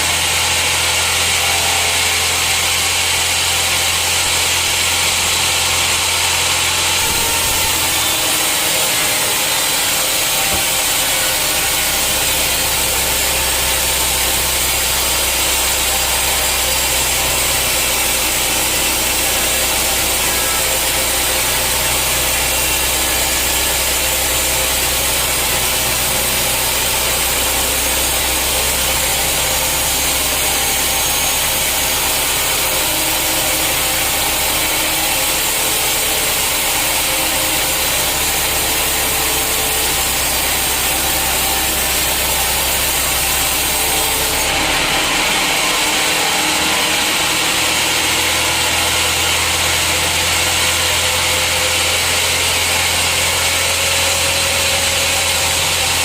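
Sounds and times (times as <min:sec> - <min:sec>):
low motor hum: 0:00.0 - 0:56.0
saw blade hissing through wood: 0:00.8 - 0:49.3.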